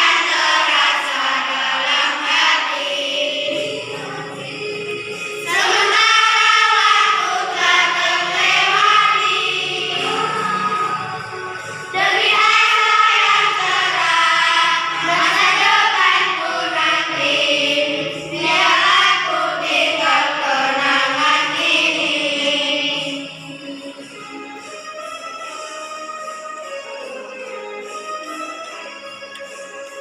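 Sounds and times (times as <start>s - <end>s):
children's choir singing: 0.0s - 26.2s
musical accompaniment: 0.0s - 30.0s.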